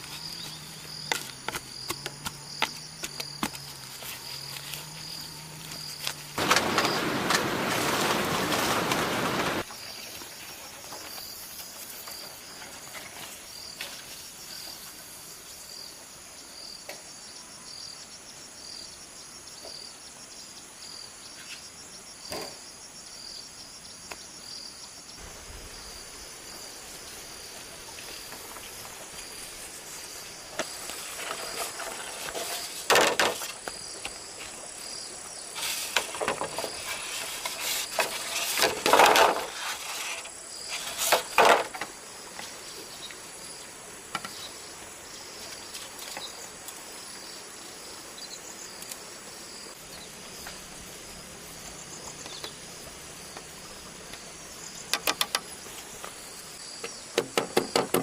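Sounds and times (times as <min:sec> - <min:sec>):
insect chirping: 0:00.0 - 0:58.0.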